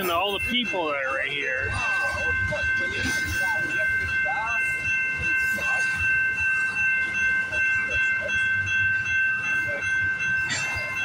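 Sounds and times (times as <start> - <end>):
high-pitched ringing tone: 0.0 - 11.0
train wheels rumbling on rail: 0.0 - 11.0.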